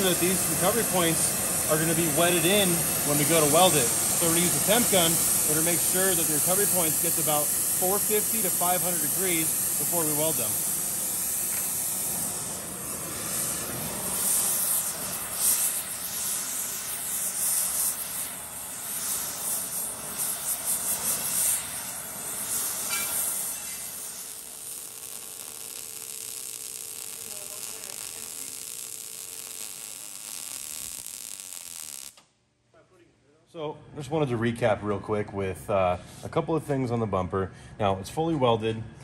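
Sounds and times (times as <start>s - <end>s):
gas torch flame hissing: 0.0s - 32.2s.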